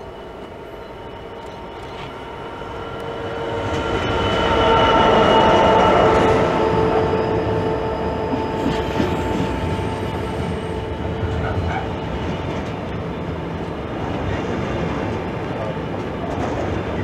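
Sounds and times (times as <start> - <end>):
thin locomotive whine: 0.0 - 17.0
train wheels rumbling on rail: 0.0 - 17.0.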